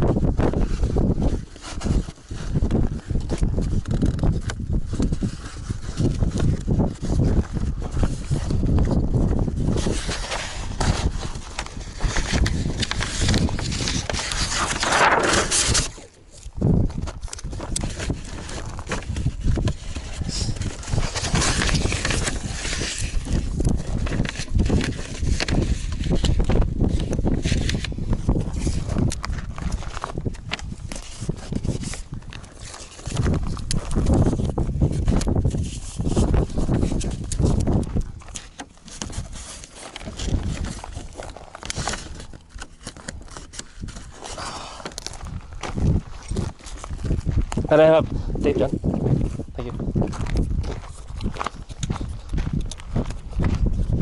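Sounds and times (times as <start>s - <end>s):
low thumps and rustling: 0.0s - 48.2s
footsteps on dirt and gravel: 0.0s - 54.0s
wind on microphone: 0.0s - 54.0s.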